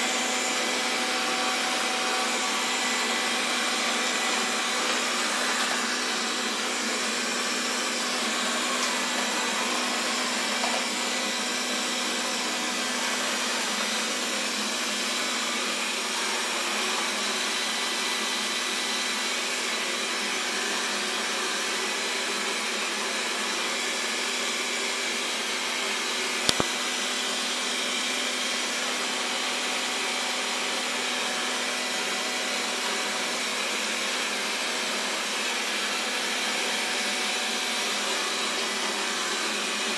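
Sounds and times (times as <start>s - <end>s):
robot vacuum humming: 0.0s - 39.9s.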